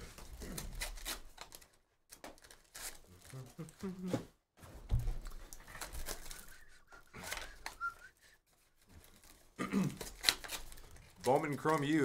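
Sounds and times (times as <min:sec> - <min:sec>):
foil packs crinkling: 0:00.0 - 0:03.9, 0:05.2 - 0:12.0.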